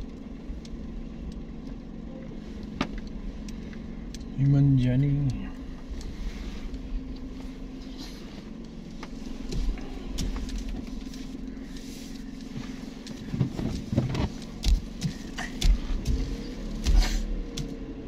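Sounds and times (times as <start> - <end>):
car engine and road hum: 0.0 - 18.0.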